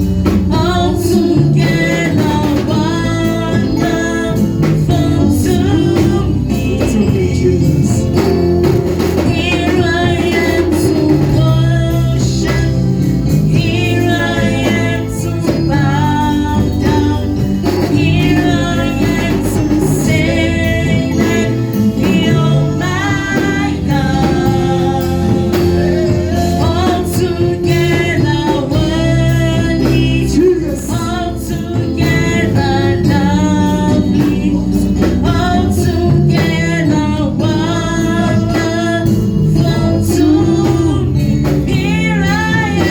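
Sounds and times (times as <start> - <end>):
gospel singing: 0.0 - 42.9
sustained bass line: 0.0 - 42.9.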